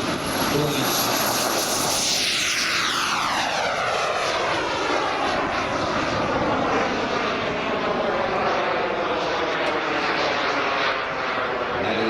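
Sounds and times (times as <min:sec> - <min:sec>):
jet turbine whining in flight: 0:00.0 - 0:12.0.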